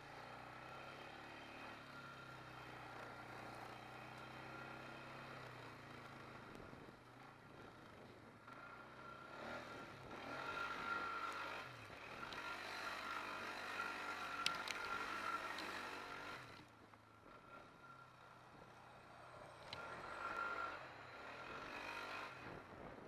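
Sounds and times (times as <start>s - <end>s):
all-terrain vehicle engine: 0.0s - 23.0s.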